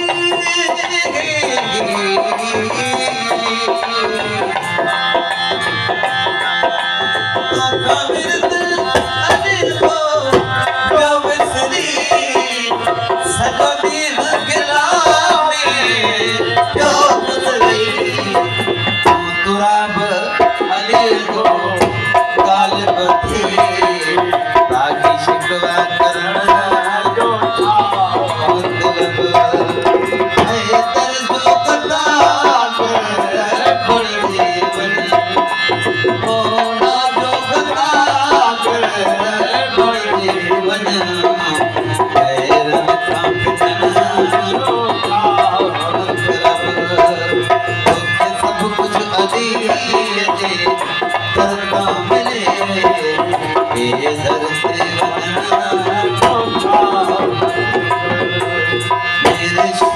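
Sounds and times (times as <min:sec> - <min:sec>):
devotional singing: 0:00.0 - 0:05.5, 0:07.5 - 0:59.9
hand drum rhythm: 0:00.0 - 0:59.9.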